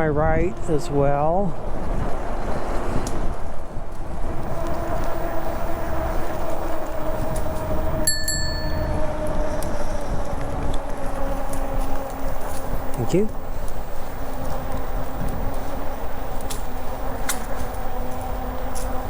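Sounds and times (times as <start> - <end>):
bicycle riding hum: 0.0 - 19.0.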